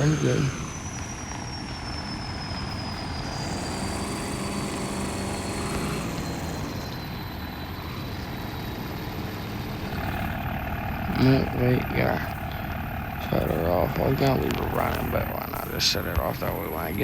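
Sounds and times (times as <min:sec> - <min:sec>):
diesel truck engine running: 0:00.0 - 0:17.0
thin high whine: 0:00.0 - 0:17.0.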